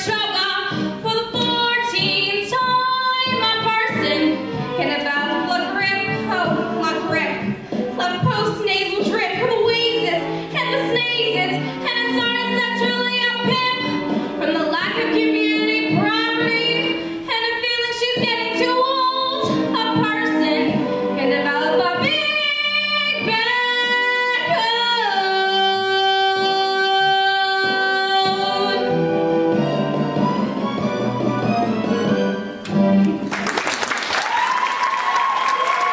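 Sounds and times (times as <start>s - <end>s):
woman singing show tune: 0.0s - 28.9s
instrumental accompaniment: 0.0s - 33.5s.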